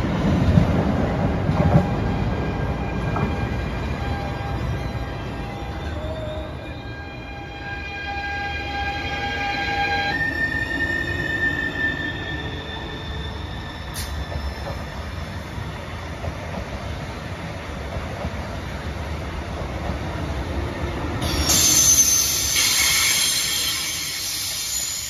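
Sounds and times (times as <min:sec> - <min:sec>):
electric train whine: 0:00.0 - 0:25.0.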